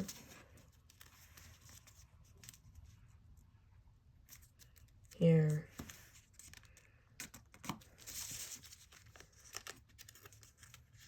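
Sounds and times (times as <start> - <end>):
paper rustling and crinkling: 0.0 - 3.3, 4.2 - 11.0.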